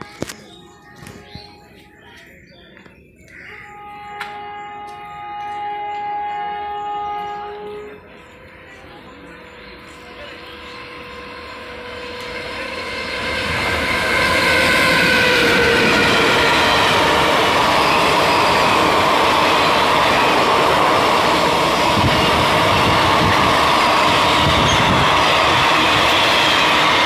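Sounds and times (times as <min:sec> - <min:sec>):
train passing at speed: 0:00.0 - 0:02.6, 0:03.5 - 0:27.0.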